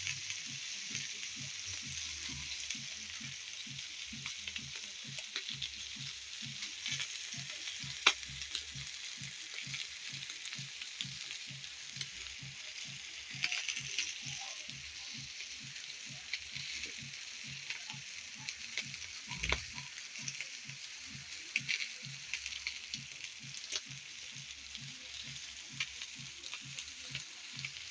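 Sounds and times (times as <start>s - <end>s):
food sizzling on a griddle: 0.0s - 27.9s.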